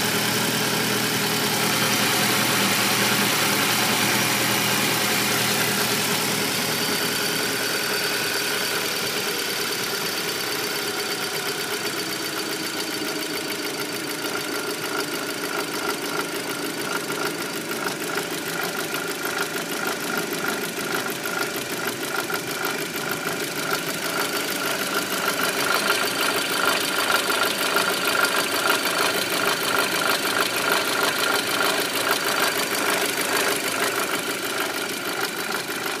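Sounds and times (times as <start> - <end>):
car engine running: 0.0 - 36.0
fast ticking clatter: 0.9 - 36.0.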